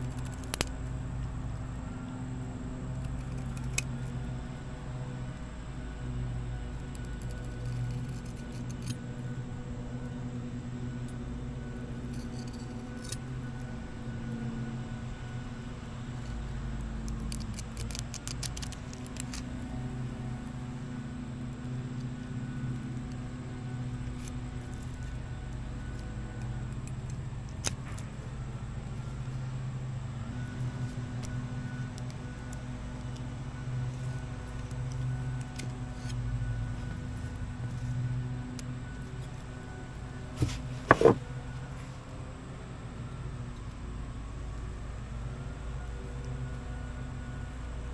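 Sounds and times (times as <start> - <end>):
steady motor hum: 0.0 - 47.9.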